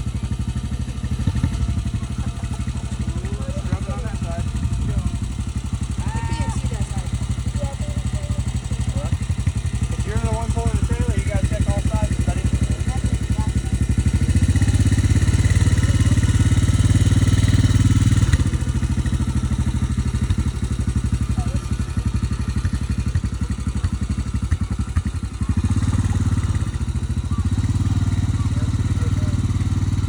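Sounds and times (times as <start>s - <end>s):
small engine running under load: 0.0s - 30.0s.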